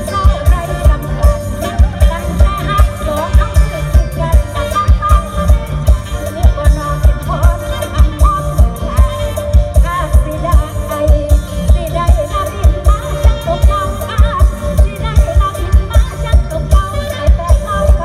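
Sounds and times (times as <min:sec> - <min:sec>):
live band music over pa: 0:00.0 - 0:18.0.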